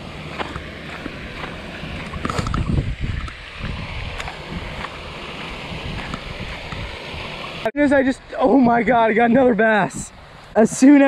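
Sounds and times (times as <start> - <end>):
outdoor hiss: 0.0 - 11.0
wind buffeting microphone: 0.0 - 11.0.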